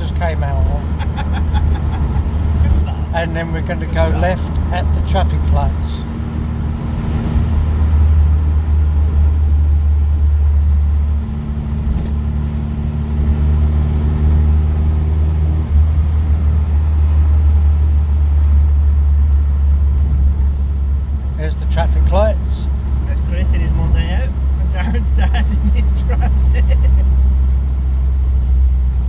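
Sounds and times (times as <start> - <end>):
car engine droning: 0.0 - 29.0.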